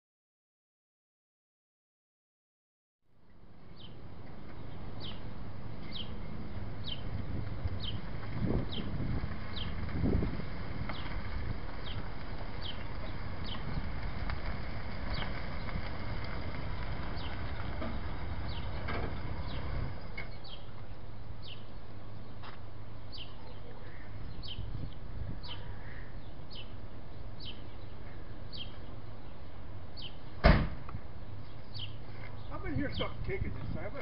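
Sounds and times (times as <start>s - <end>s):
low steady rumble: 3.1s - 34.0s
birds chirping: 3.2s - 34.0s.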